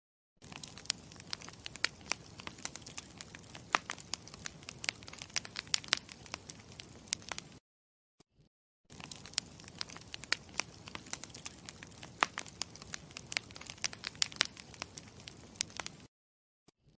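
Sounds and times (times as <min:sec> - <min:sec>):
campfire crackling and popping: 0:00.4 - 0:07.6, 0:08.9 - 0:16.1.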